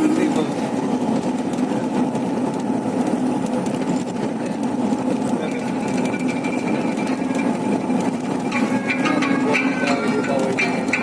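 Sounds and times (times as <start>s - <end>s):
truck engine rattling: 0.0s - 11.0s.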